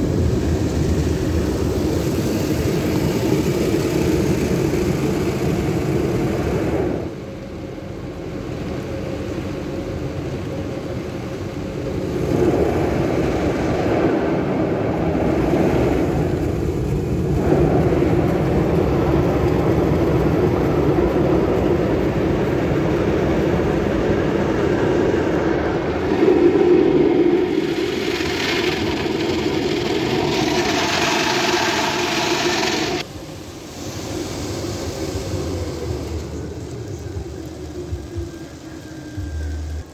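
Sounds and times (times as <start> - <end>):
car wash machinery whirring: 0.0 - 39.9.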